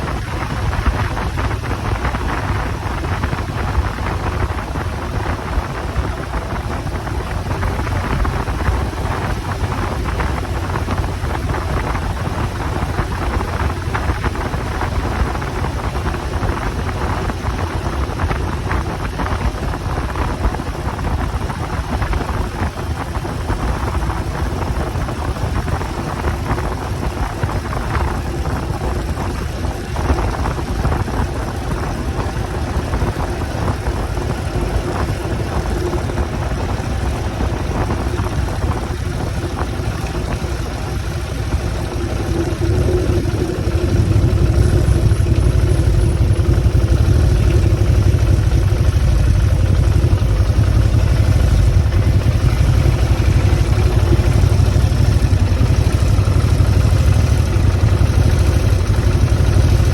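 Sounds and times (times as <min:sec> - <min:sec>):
motorcycle engine: 0:00.0 - 0:59.9
road noise: 0:00.0 - 0:59.9
wind rushing over microphone: 0:00.0 - 0:59.9.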